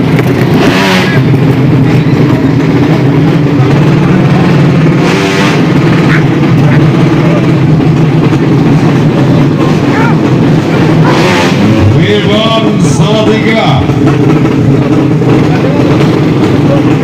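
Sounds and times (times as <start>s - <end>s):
loud motorcycle engines running: 0.0s - 17.0s.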